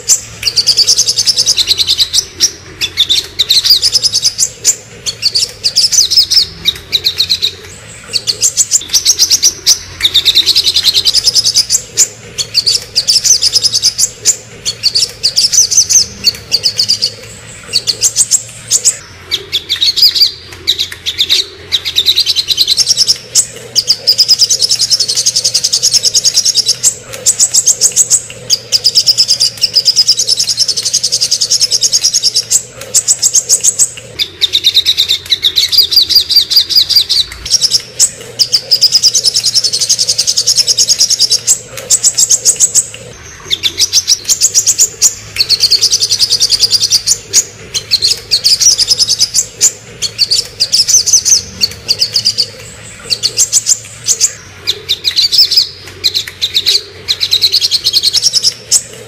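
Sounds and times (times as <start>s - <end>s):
sunbird singing trills: 0.0s - 59.0s.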